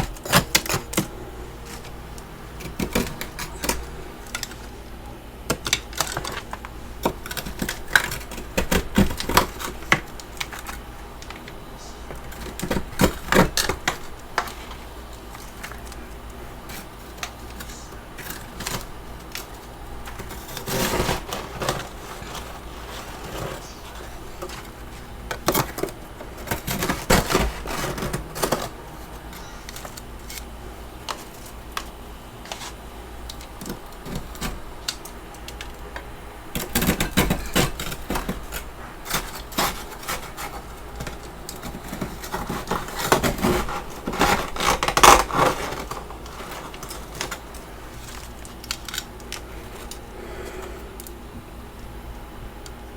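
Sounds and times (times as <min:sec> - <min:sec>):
frost being scraped and crunched: 0:00.0 - 0:50.6.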